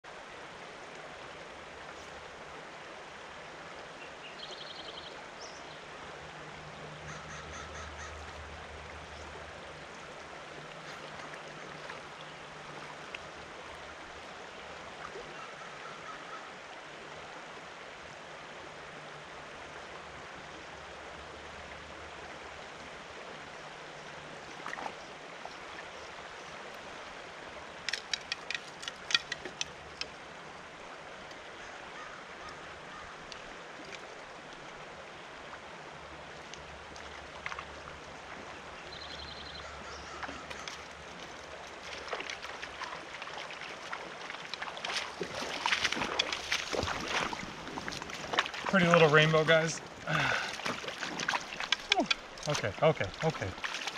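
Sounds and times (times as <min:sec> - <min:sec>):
rocky stream flowing: 0:00.0 - 0:53.9.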